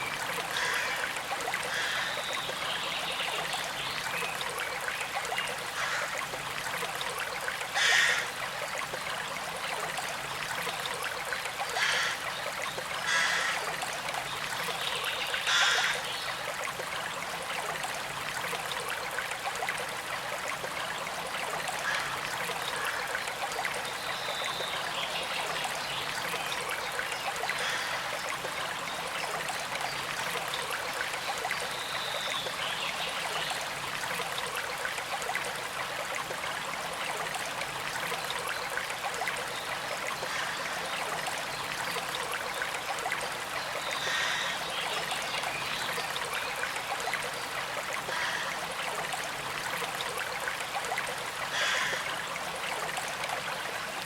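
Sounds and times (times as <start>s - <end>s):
creek trickling and gurgling: 0.0s - 54.0s.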